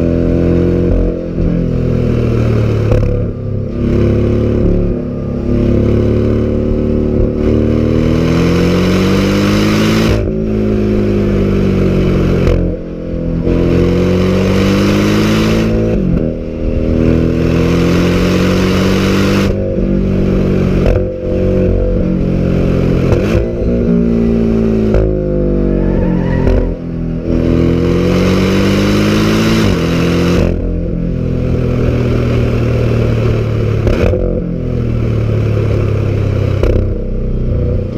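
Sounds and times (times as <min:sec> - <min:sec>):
sports car engine at full throttle: 0:00.0 - 0:37.9.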